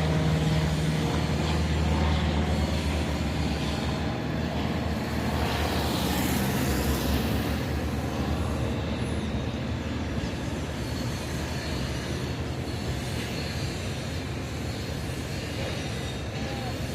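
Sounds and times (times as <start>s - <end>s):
propeller plane engine drone: 0.0s - 16.9s.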